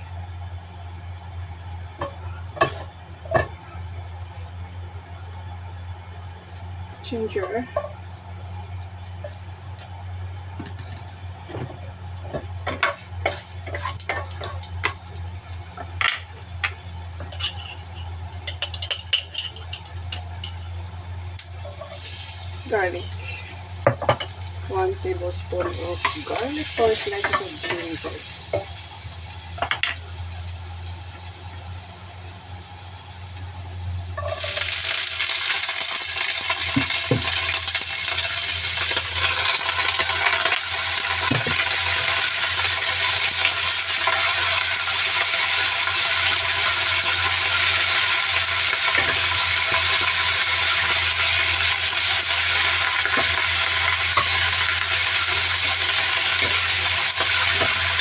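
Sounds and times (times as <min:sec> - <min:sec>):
food sizzling in hot oil: 0:07.1 - 0:58.0.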